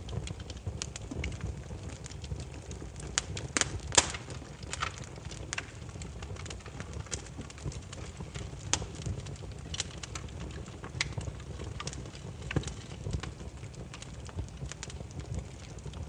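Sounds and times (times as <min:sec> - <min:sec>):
firewood crackling and popping: 0:00.0 - 0:16.0
low rumble of flames: 0:00.0 - 0:16.0.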